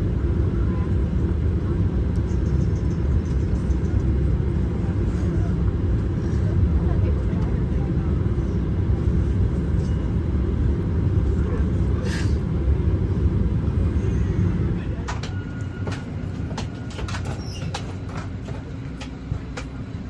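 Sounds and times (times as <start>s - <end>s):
vehicle rumbling in motion: 0.0s - 20.0s.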